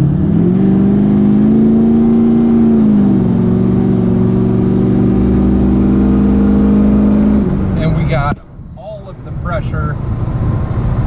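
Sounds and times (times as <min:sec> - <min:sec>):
diesel engine accelerating: 0:00.0 - 0:11.0.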